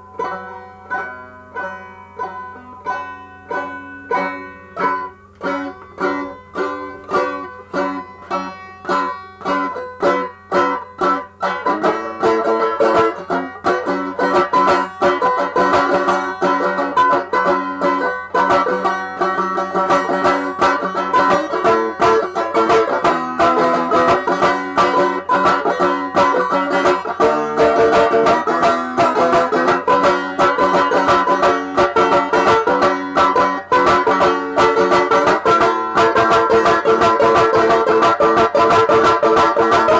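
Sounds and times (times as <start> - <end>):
banjo picking: 0.0 - 39.9.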